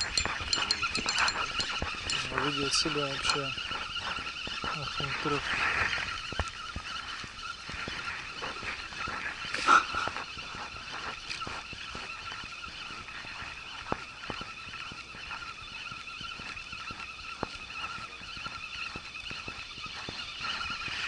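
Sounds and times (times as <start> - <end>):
fishing reel gear whirr: 0.0 - 21.0
reel sharp ticks: 0.0 - 21.0.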